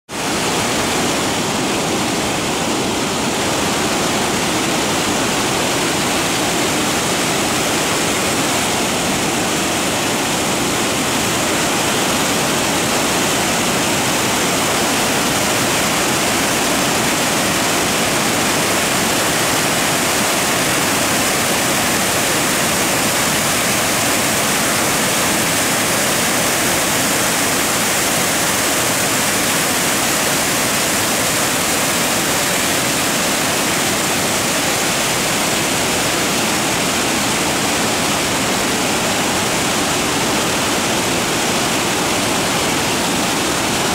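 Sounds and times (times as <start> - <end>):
rush of falling water: 0.1 - 43.9.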